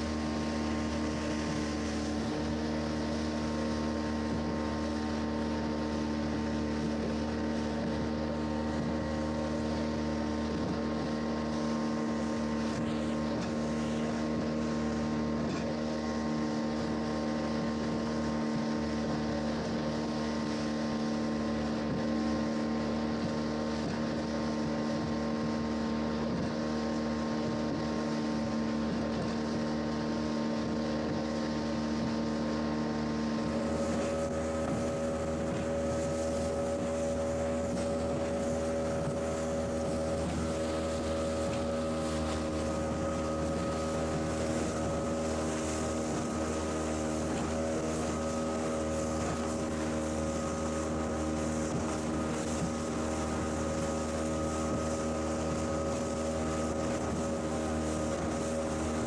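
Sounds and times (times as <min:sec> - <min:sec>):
motorboat engine running: 0:00.0 - 0:59.0
water rushing along hull: 0:00.0 - 0:59.0.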